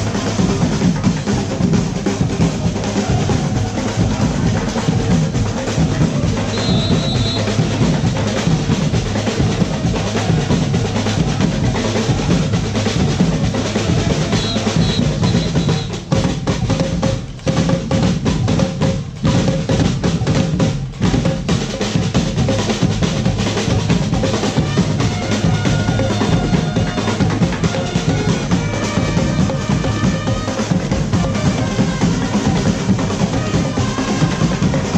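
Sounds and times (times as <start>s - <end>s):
snare and bass drums playing: 0.0s - 34.9s.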